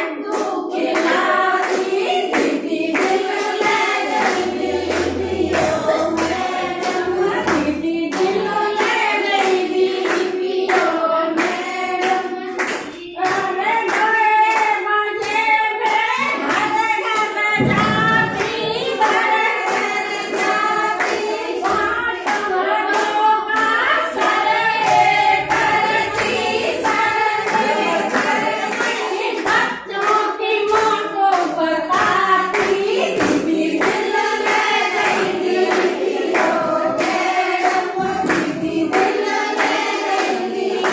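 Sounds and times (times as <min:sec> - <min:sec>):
women singing together: 0:00.0 - 0:40.9
hand claps: 0:00.2 - 0:40.9.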